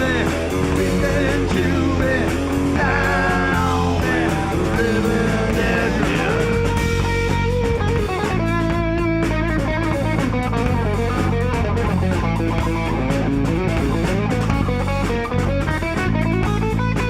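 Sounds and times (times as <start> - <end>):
bass guitar: 0.0 - 17.0
drum kit: 0.0 - 17.0
electric guitar run: 0.0 - 17.0.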